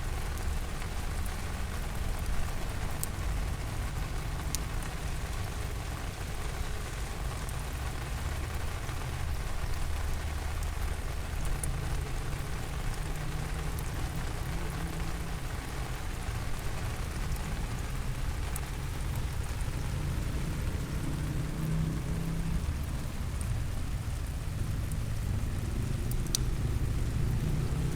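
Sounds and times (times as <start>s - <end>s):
faint ticks of raindrops: 0.0s - 27.9s
steady rain falling: 0.0s - 27.9s.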